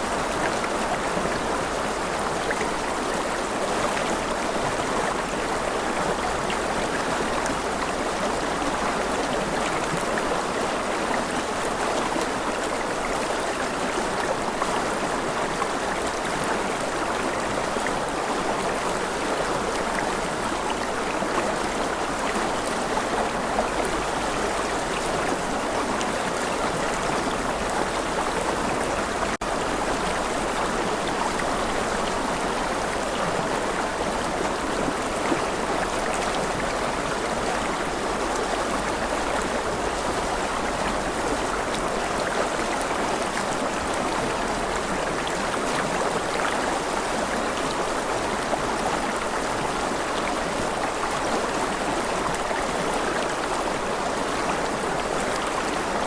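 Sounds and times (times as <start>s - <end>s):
stream water rushing and gurgling: 0.0s - 56.0s.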